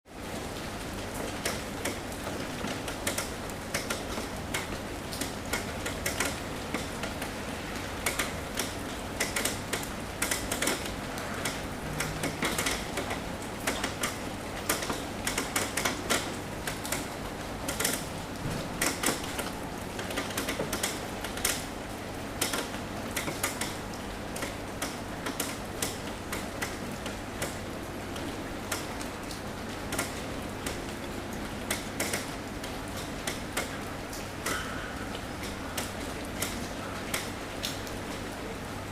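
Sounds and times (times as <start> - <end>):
rain on a roof: 0.1 - 38.9.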